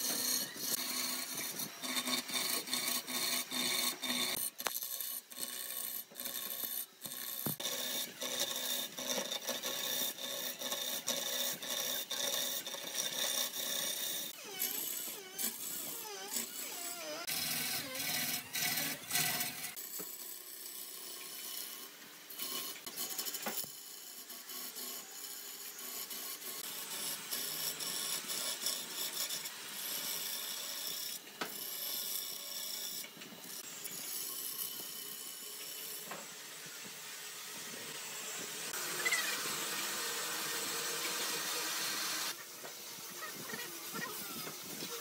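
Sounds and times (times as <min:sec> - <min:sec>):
lathe tool rasping against wood: 0:00.0 - 0:36.2, 0:36.8 - 0:45.0.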